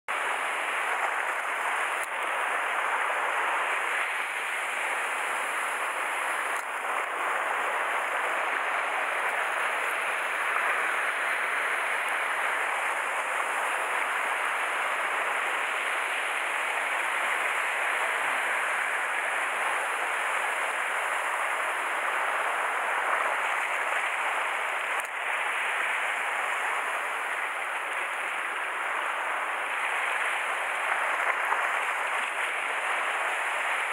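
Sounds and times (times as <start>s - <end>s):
sea water surging against rocks: 0.1s - 33.9s.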